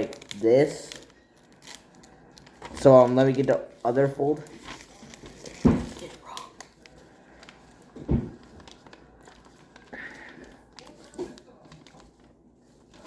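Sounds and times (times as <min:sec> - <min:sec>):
paper folding and rustling: 0:00.0 - 0:13.0.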